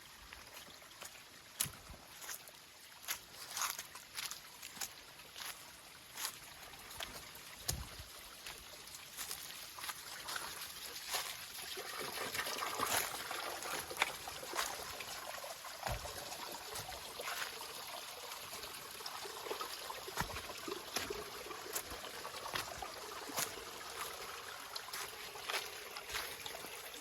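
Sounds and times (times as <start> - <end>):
water trickling: 0.0 - 27.0.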